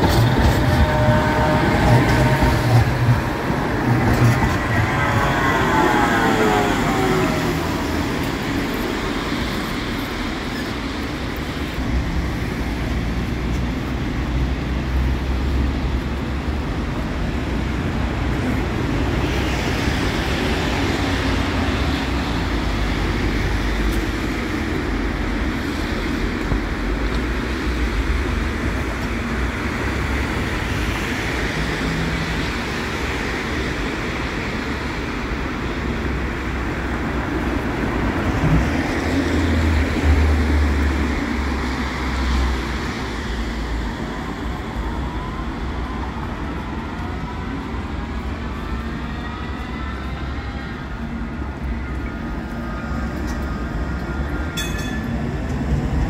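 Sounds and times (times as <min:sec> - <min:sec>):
city traffic noise: 0:00.0 - 0:56.0
trams rumbling: 0:00.0 - 0:56.0.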